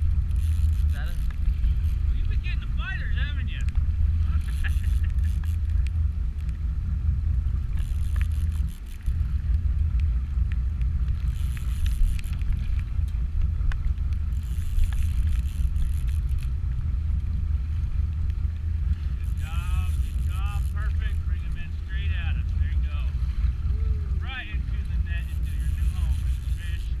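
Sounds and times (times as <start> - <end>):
boat engine low rumble: 0.0 - 27.0.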